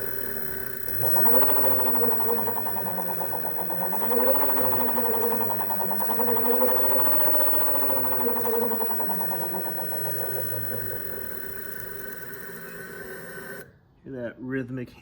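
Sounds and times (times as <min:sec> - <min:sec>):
fast rhythmic hammering: 0:00.0 - 0:13.6
electric motorcycle motor revving: 0:00.0 - 0:13.7.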